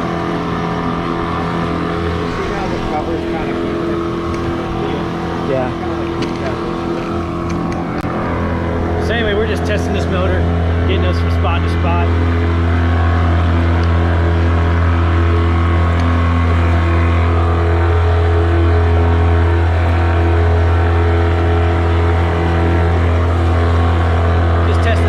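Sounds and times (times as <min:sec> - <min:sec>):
outboard motor running under load: 0:00.0 - 0:25.0.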